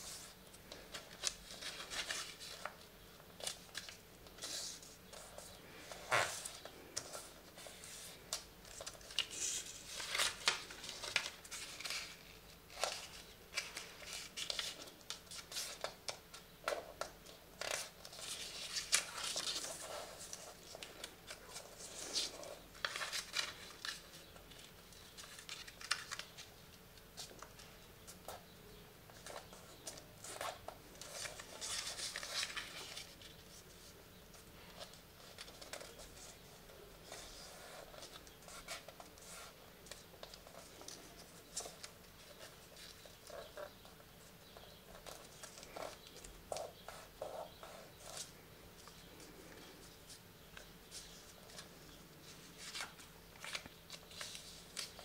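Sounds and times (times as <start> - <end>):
paper rustling and creasing: 0.0 - 28.5, 29.1 - 55.0.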